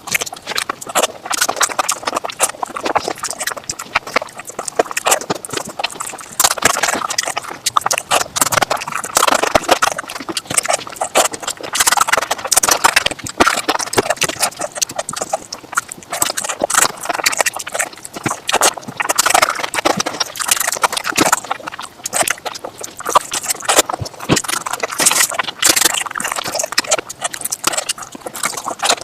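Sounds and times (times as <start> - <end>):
person chewing and lip-smacking: 0.0 - 29.0.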